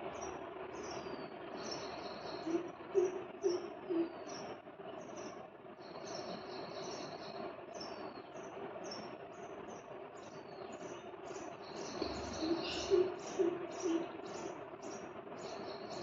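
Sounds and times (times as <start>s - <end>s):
sparrows chirping: 0.0s - 16.0s
steady low hum: 0.0s - 16.0s.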